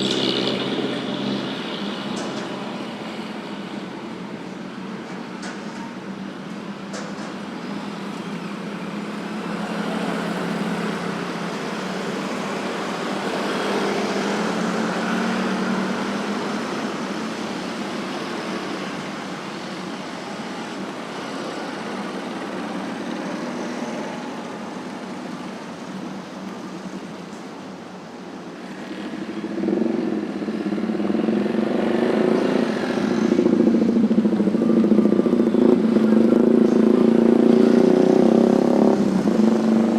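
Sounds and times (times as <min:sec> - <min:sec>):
motorcycle engines: 0:00.0 - 0:39.9
tyres on the road: 0:00.0 - 0:39.9.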